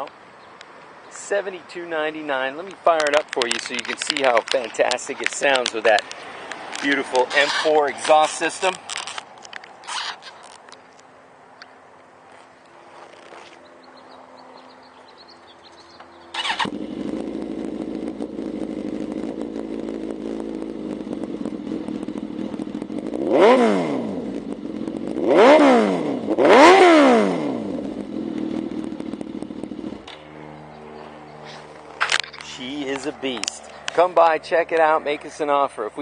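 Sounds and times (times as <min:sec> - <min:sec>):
motorcycle engine idling and revving: 0:03.0 - 0:10.6, 0:12.3 - 0:36.0.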